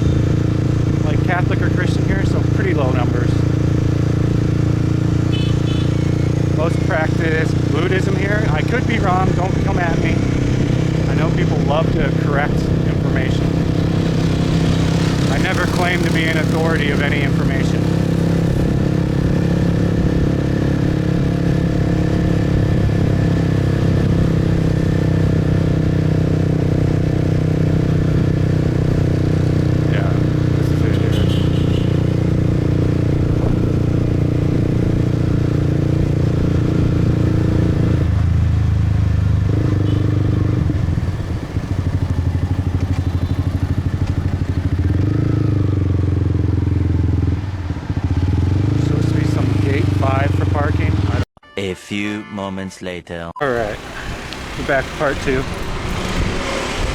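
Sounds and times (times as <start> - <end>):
motorbike engine cruising: 0.0 - 51.3, 53.4 - 56.9.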